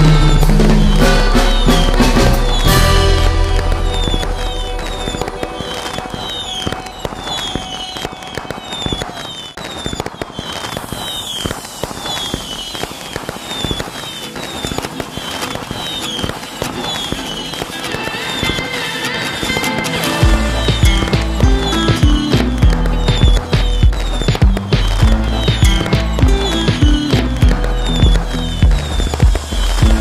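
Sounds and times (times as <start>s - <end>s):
music playing: 0.0s - 8.8s, 11.5s - 30.0s
fireworks popping and crackling: 0.0s - 30.0s.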